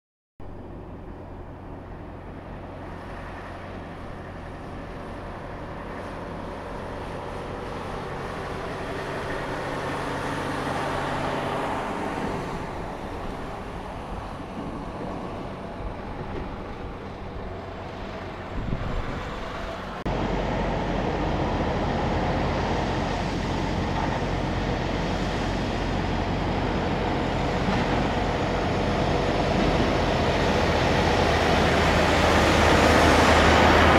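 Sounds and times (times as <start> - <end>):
trucks driving past: 0.4 - 33.9.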